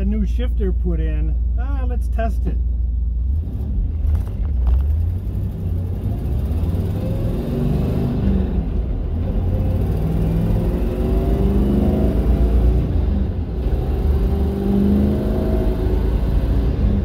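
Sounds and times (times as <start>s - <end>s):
car engine deep rumble accelerating: 0.0s - 17.0s.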